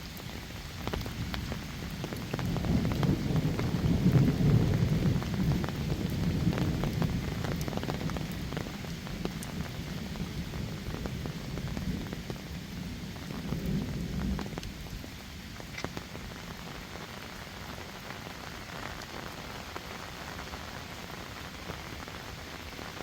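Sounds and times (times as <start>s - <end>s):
heavy rain hissing: 0.0s - 23.0s
raindrops ticking: 0.0s - 23.0s.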